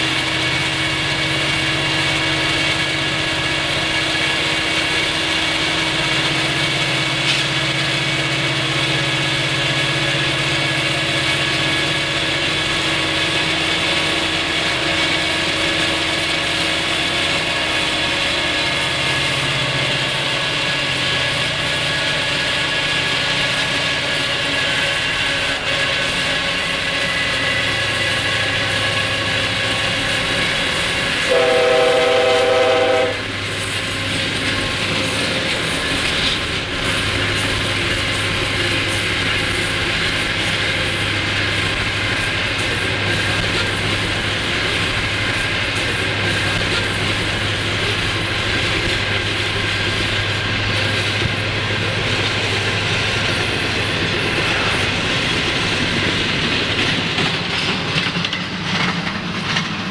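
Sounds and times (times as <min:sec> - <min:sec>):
diesel locomotive engines idling: 0:00.0 - 0:59.9.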